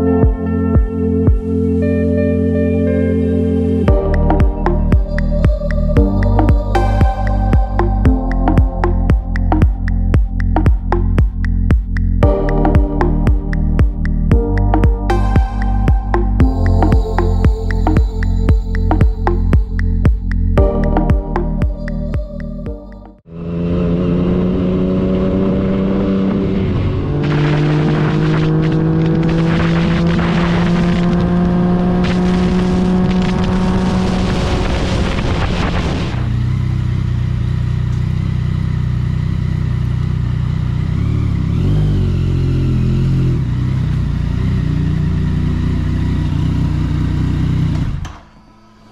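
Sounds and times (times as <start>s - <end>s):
motorcycle engine running: 3.9s - 48.2s.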